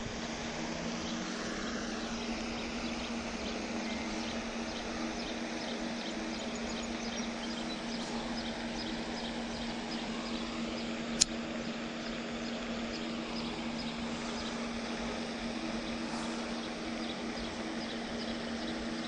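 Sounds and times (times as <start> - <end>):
low steady hum: 0.0 - 19.0
outdoor background hiss: 0.0 - 19.0.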